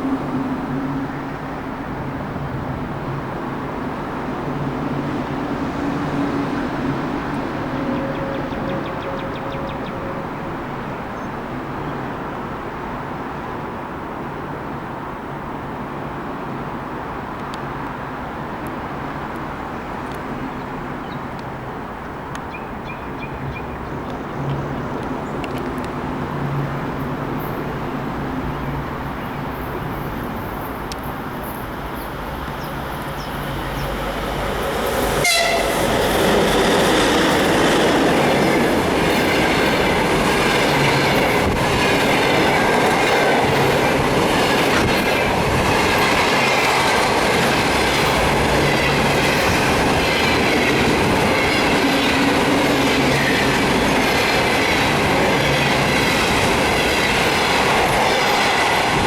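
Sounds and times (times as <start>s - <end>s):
electric locomotive rushing past: 0.0s - 13.2s, 18.1s - 59.0s
train coaches rolling by: 0.0s - 59.0s.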